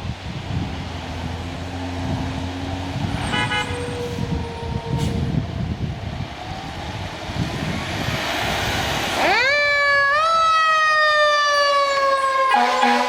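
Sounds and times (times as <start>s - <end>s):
road noise: 0.0s - 13.0s
fire engine siren: 1.7s - 13.0s.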